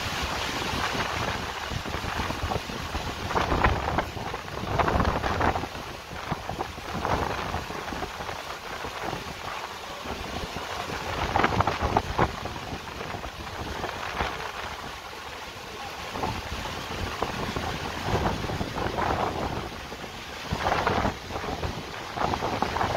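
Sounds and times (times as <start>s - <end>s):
heavy rain: 0.0s - 22.9s
wind buffeting microphone: 0.0s - 22.9s.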